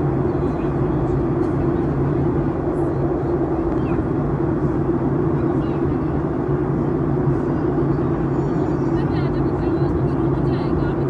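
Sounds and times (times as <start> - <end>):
airliner cabin engine drone: 0.0 - 11.0
constant low hum: 0.0 - 11.0.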